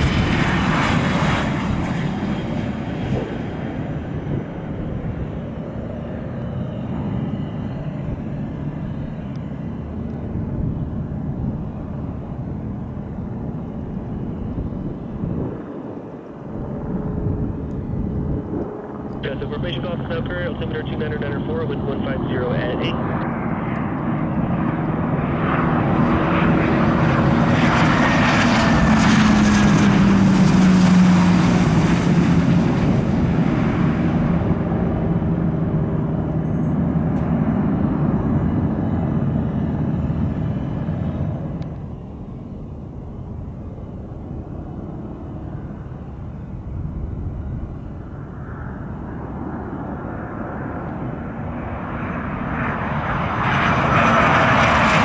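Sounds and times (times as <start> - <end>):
approaching jet engine: 0.0 - 55.0
high engine whine: 0.0 - 55.0
jet engines passing close: 0.0 - 55.0.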